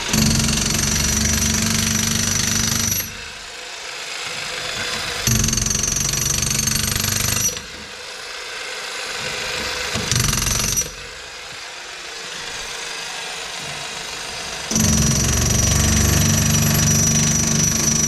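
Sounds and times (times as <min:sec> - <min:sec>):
power tool whining: 0:00.0 - 0:18.0.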